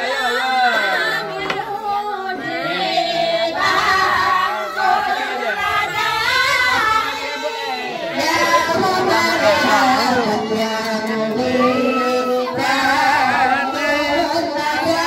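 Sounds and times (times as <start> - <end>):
voices singing unaccompanied: 0.0 - 15.0.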